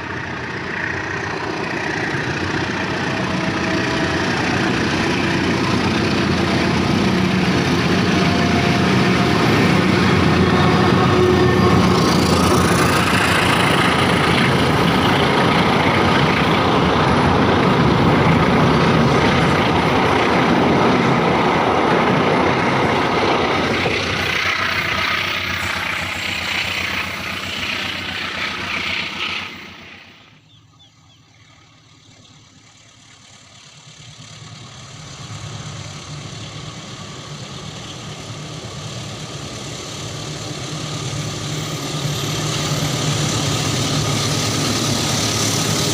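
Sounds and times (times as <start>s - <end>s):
low diesel engine drone: 0.0s - 45.9s
train wheels rumbling past: 0.0s - 45.9s.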